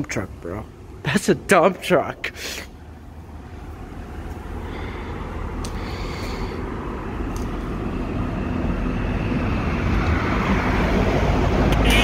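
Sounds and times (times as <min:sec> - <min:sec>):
road traffic rushing past: 0:00.0 - 0:12.0.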